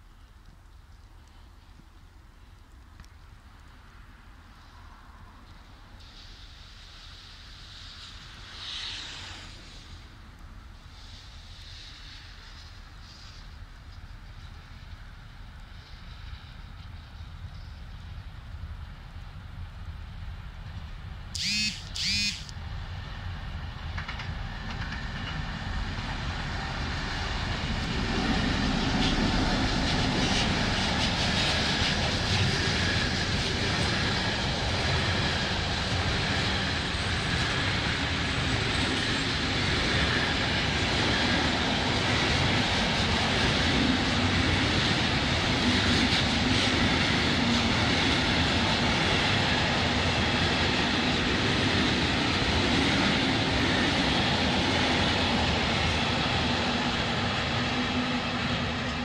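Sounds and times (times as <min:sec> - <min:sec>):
freight train rumbling past: 0:04.1 - 0:21.4, 0:22.5 - 0:59.0.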